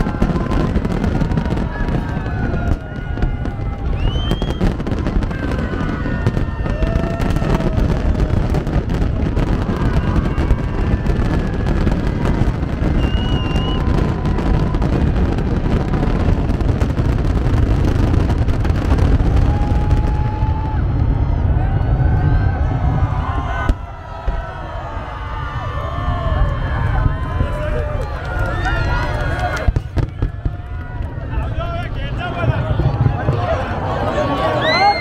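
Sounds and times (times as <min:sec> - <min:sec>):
firework pops and crackles: 0:00.0 - 0:20.8, 0:26.7 - 0:34.0
low rumble of firework booms: 0:00.0 - 0:28.2, 0:29.6 - 0:34.0.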